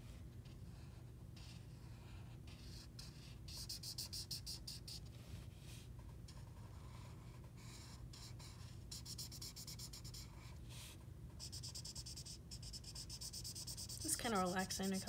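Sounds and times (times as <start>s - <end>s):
marker scratching on paper: 0.7s - 15.0s.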